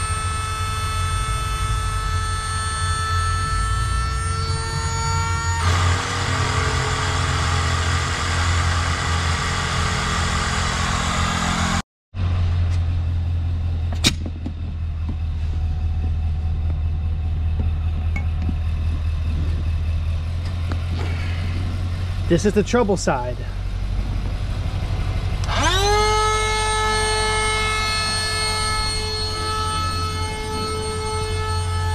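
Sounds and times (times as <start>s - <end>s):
low engine hum: 0.0s - 31.9s.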